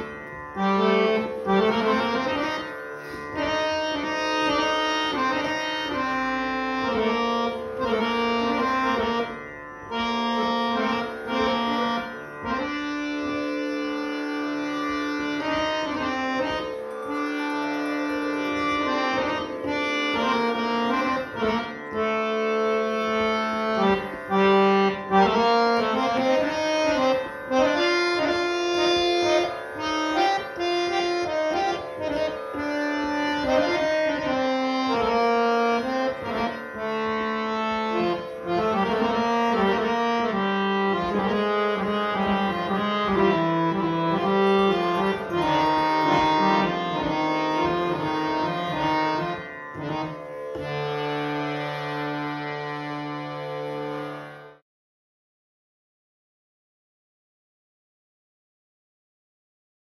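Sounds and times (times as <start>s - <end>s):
harmonium melody: 0.0s - 54.6s.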